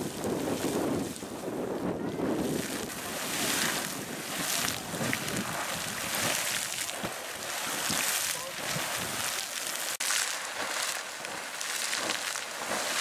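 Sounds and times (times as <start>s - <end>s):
geyser water splashing: 0.0s - 13.0s.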